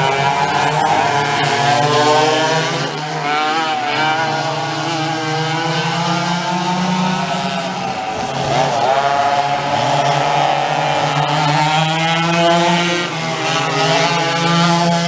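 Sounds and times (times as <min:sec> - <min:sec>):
kart engines revving high: 0:00.0 - 0:15.0.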